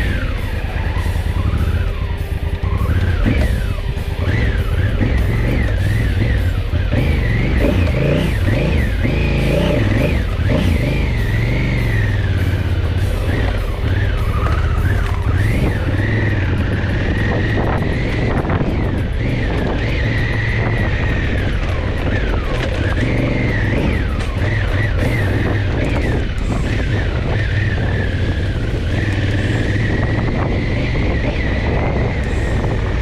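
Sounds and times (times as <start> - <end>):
motorcycle engine running: 0.0 - 33.0
wind noise on microphone: 0.0 - 33.0.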